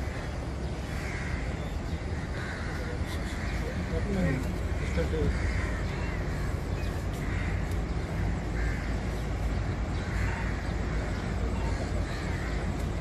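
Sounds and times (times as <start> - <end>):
crows cawing: 0.0 - 13.0
low outdoor rumble: 0.0 - 13.0.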